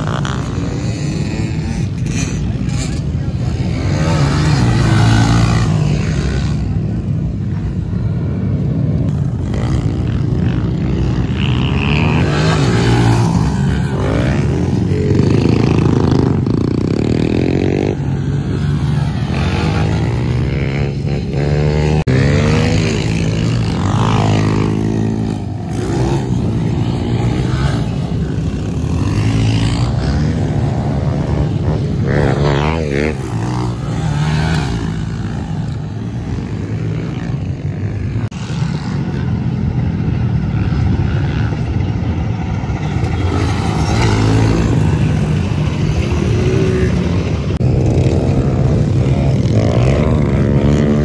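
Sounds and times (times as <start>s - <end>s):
small motorbike engines revving: 0.0s - 51.0s.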